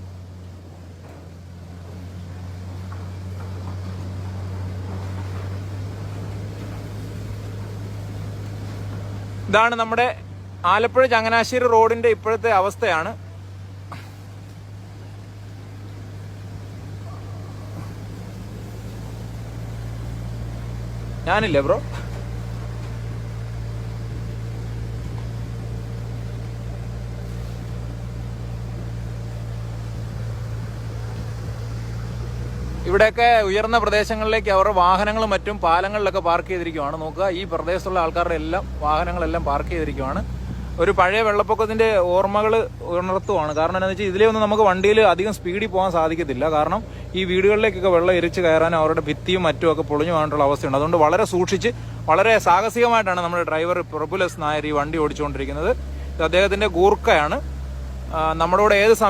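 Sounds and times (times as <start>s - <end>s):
tyres rushing through water: 0.0s - 59.0s
vehicle engine drone: 0.0s - 59.0s.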